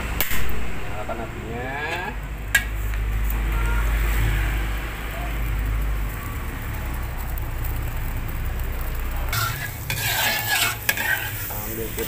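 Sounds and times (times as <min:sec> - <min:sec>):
gas burner flame rumbling: 0:00.0 - 0:12.0.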